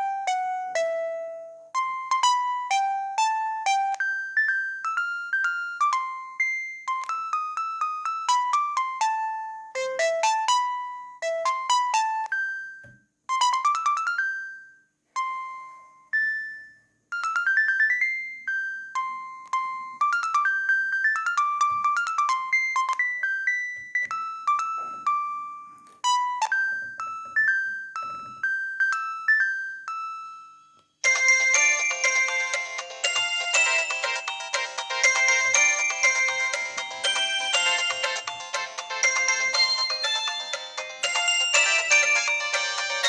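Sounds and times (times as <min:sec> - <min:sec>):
fuller polyphonic ringtone: 0:00.0 - 0:43.0
synthesized ringtone melody: 0:00.0 - 0:43.0.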